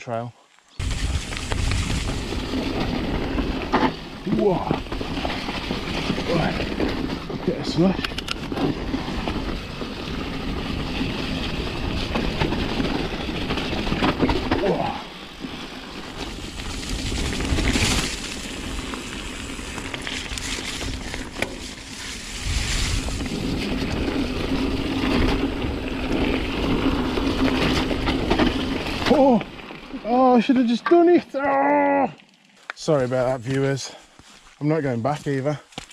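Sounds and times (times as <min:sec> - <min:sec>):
bike tyres rolling over mud: 0:00.0 - 0:35.9
bike rattling over bumps: 0:00.8 - 0:31.4.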